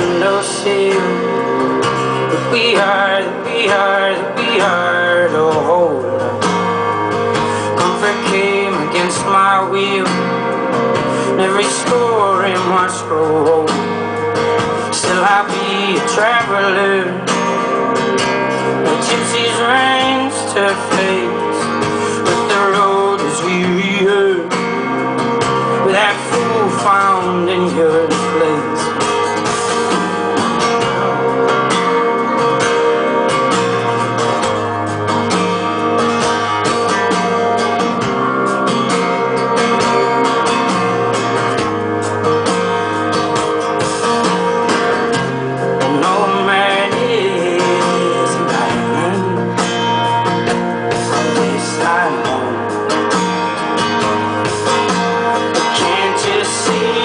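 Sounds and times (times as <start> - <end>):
acoustic guitar folk music: 0.0 - 57.0.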